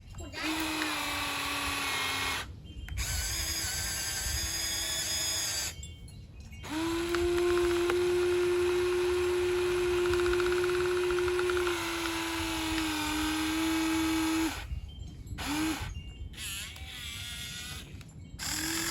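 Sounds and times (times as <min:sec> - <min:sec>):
toy electric motors whining: 0:00.2 - 0:05.8, 0:06.6 - 0:14.8, 0:15.4 - 0:18.9.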